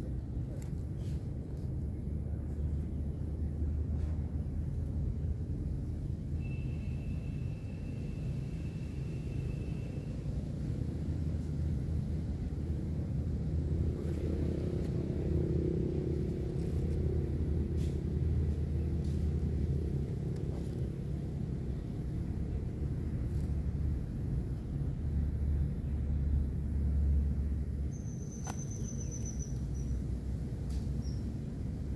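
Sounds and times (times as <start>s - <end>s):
low mechanical rumble: 0.0s - 31.9s.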